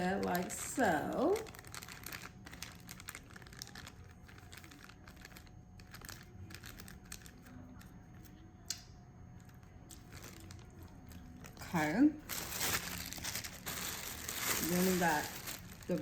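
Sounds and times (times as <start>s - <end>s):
plastic packaging crinkling: 0.0s - 8.4s, 9.4s - 16.0s.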